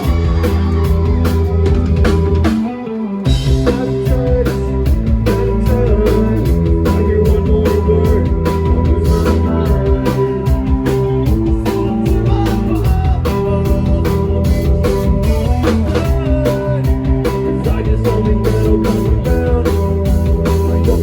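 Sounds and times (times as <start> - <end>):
drum kit beat: 0.0 - 21.0
live rock band playing: 0.0 - 21.0.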